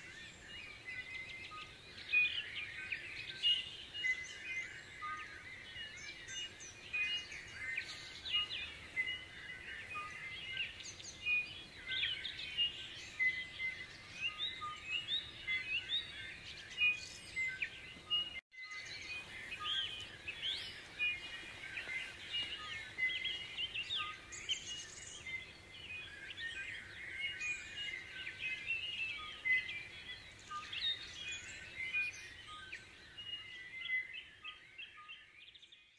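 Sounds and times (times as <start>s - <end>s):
many birds singing: 0.0s - 35.9s.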